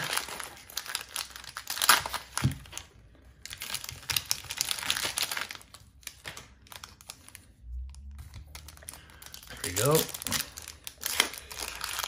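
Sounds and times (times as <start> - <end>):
cellophane wrapper crinkling: 0.0 - 12.0.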